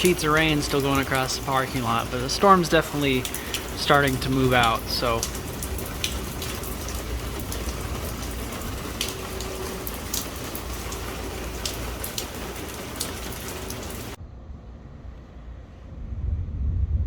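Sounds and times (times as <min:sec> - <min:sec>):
raindrops ticking close by: 0:00.0 - 0:14.2
steady rain: 0:00.0 - 0:14.2.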